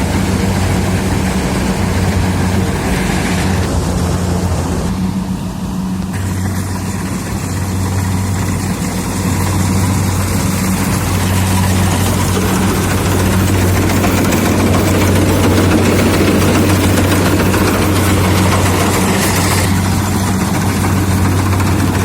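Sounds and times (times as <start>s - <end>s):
diesel engine humming: 0.0s - 22.0s
rushing machinery noise: 0.0s - 22.0s.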